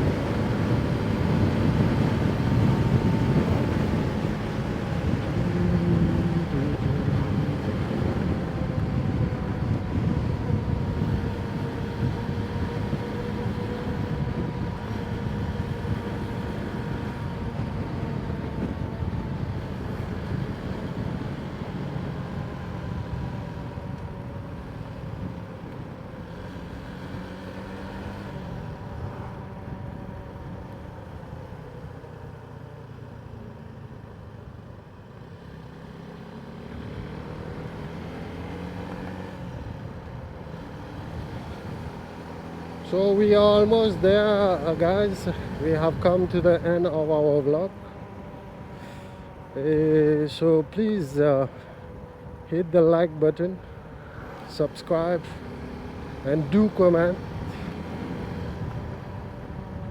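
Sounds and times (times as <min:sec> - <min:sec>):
motorcycle engine cruising: 0:00.0 - 0:59.9
wind and road rush: 0:00.0 - 0:59.9.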